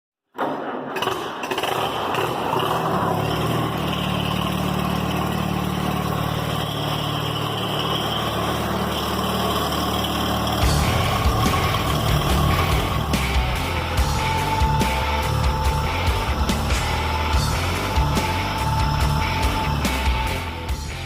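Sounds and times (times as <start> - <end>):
tractor engine idling: 1.0 - 21.0.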